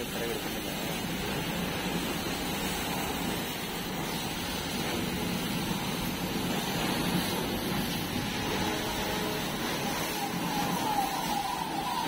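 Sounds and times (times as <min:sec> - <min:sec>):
water spray hissing: 0:00.0 - 0:12.0.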